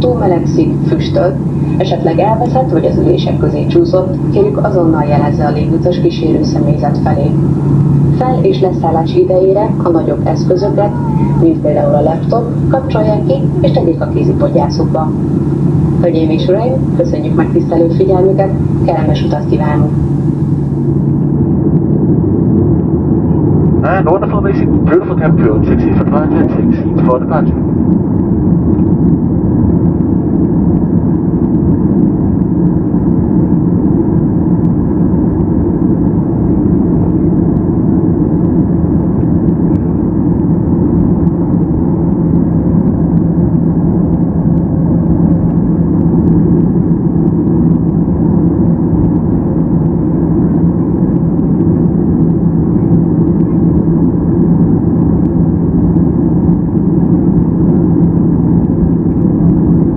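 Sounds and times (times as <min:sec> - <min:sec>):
jet engine rumble inside cabin: 0:00.0 - 0:59.9.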